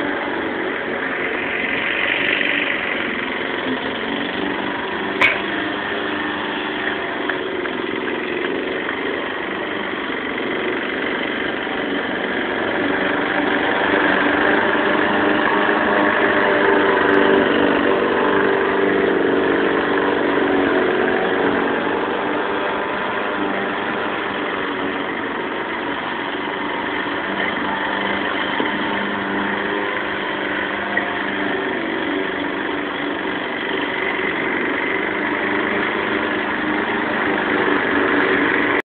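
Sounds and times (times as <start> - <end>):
lawn mower engine running: 0.0 - 38.8.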